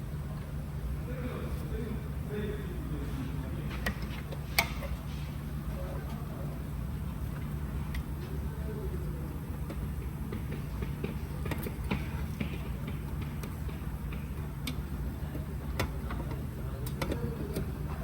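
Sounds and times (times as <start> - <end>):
low workshop hum: 0.0 - 18.0.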